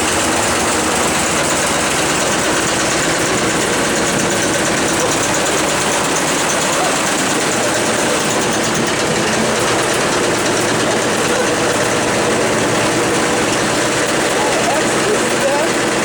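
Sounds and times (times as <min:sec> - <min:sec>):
washing machine rumbling and rattling: 0:00.0 - 0:16.0.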